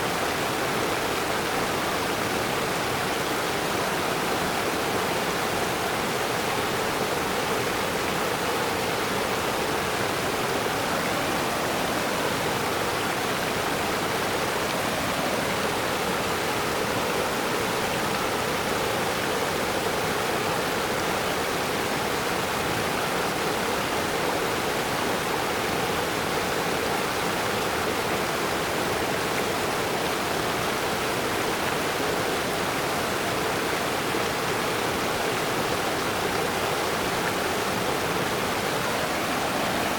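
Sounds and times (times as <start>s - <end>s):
fast-flowing stream water: 0.0s - 39.9s.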